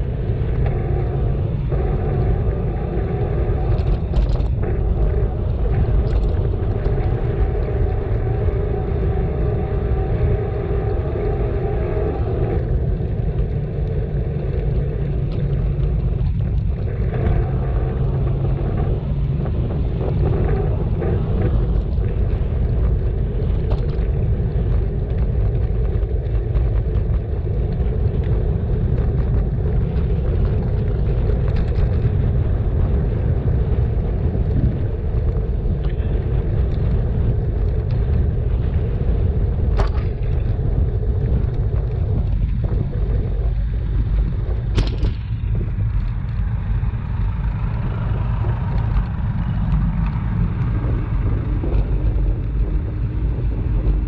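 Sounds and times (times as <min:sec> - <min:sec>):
bicycle tyres on road: 0:00.0 - 0:54.0
faint hum: 0:00.0 - 0:54.0
wind on microphone: 0:00.0 - 0:54.0.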